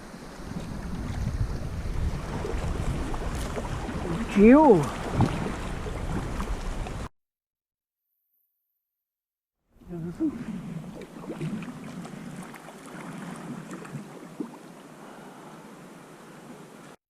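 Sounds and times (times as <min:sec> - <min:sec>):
water splashing around kayak: 0:00.0 - 0:07.1, 0:09.8 - 0:17.0.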